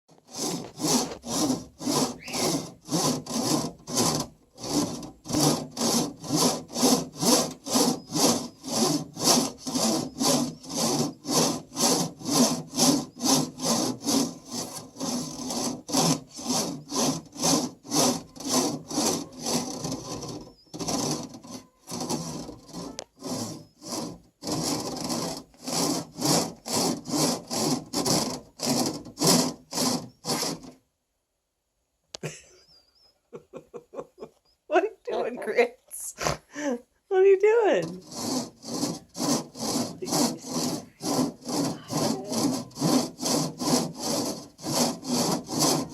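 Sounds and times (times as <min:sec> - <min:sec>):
beak scraping across a grate: 0:00.2 - 0:30.8, 0:37.8 - 0:45.9.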